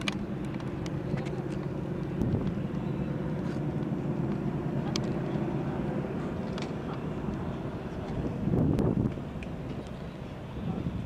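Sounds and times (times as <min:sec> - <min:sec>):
aircraft engines droning overhead: 0:00.0 - 0:11.0.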